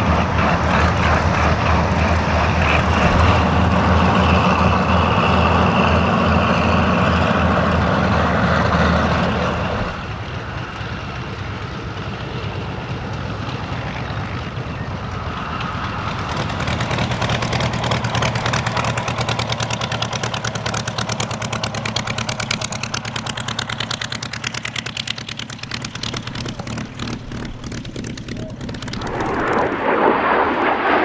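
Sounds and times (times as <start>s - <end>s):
piston aircraft engine idling: 0.0s - 31.0s.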